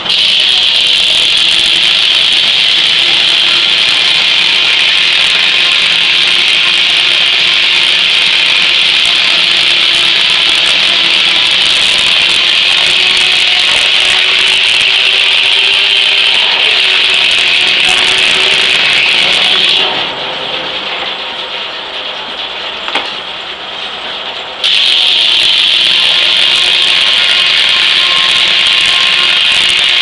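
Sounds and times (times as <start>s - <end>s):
circular saw cutting log: 0.0s - 21.3s, 24.6s - 30.0s.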